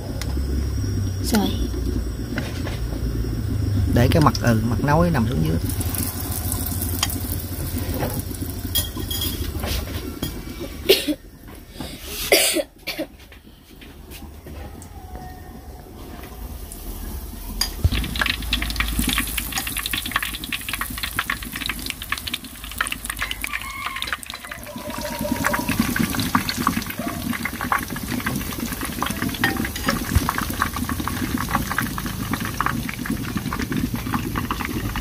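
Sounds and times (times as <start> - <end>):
food frying in hot oil: 0.0 - 11.4, 16.1 - 35.0.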